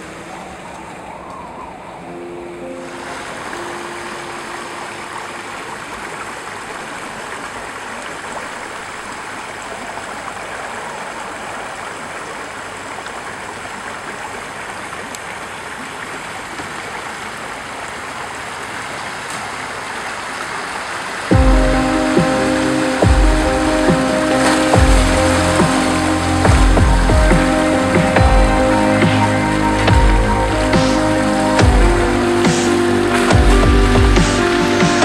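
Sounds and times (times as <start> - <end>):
water rushing over rocks: 2.8 - 35.0.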